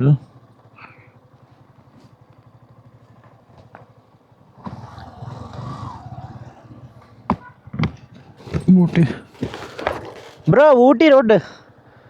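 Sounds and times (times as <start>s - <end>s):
motorcycle engine throbbing: 0.0s - 10.7s.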